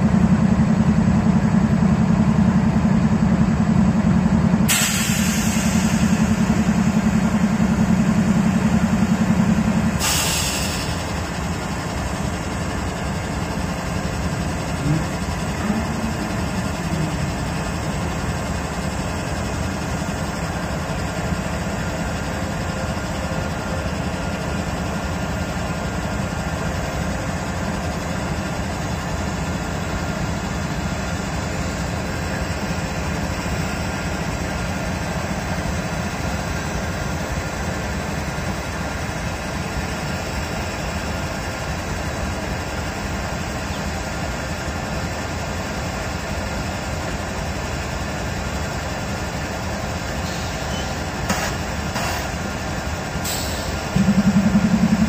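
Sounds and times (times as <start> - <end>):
deep engine sound: 0.0 - 45.5, 49.1 - 55.0
locomotives idling with low hum: 0.0 - 55.0.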